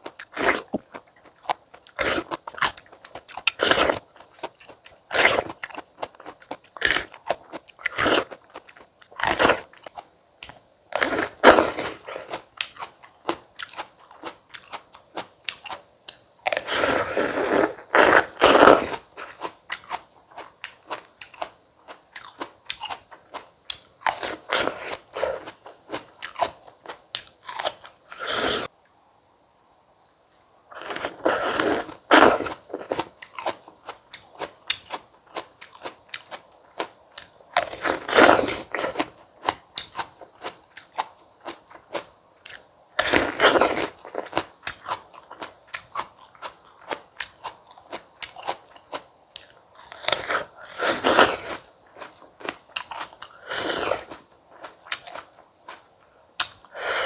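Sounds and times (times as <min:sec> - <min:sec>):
crunchy fruit bites: 0:00.0 - 0:28.7, 0:30.7 - 0:55.8.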